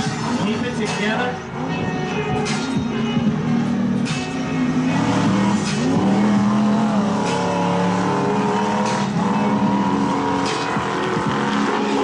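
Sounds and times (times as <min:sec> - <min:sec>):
truck engine revving high: 0:00.0 - 0:12.0.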